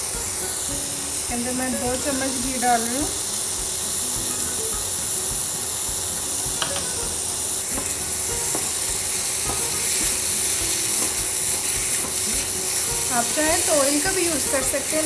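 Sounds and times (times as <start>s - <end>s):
cheese sizzling in a pan: 0.0s - 15.0s.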